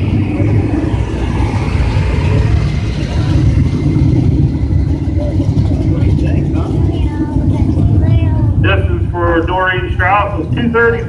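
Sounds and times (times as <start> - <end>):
loud engine at high revs: 0.0 - 11.0.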